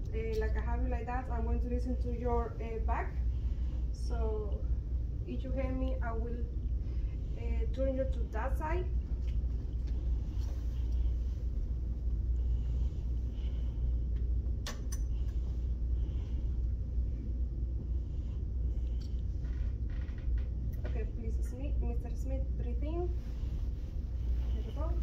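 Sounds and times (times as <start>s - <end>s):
low room rumble: 0.0s - 25.0s.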